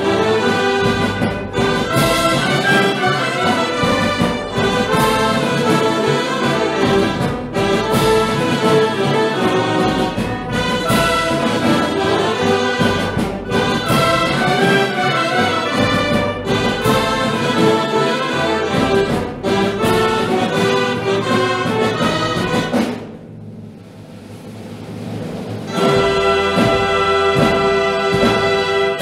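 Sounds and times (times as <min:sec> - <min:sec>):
dulzainas and brass band playing: 0:00.0 - 0:23.3, 0:24.4 - 0:29.0.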